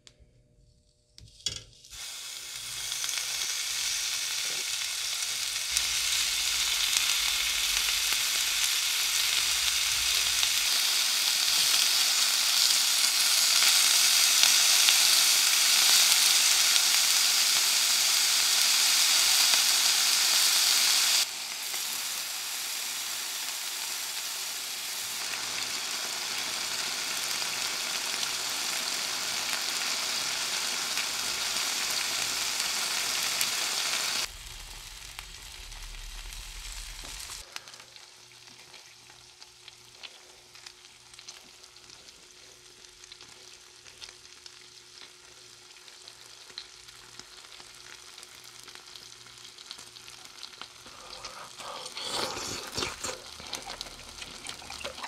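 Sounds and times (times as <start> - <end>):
meat sizzling on a grill: 1.8 - 55.0.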